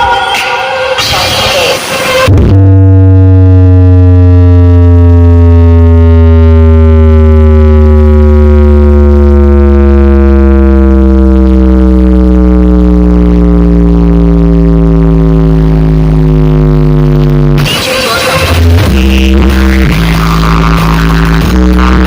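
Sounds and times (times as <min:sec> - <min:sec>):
electronic bass tone gliding down: 0:00.0 - 0:22.0.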